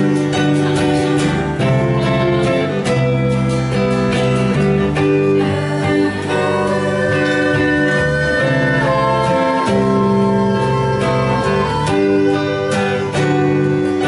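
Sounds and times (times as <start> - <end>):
held melody notes: 0.0 - 14.0
strummed acoustic guitar: 0.0 - 14.0.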